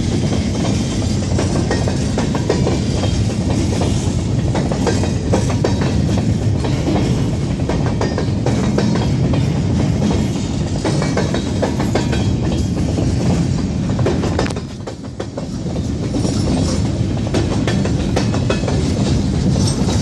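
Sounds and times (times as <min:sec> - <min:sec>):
freight train wheels rumbling: 0:00.0 - 0:20.0
wheels clattering over rail joints: 0:00.0 - 0:20.0.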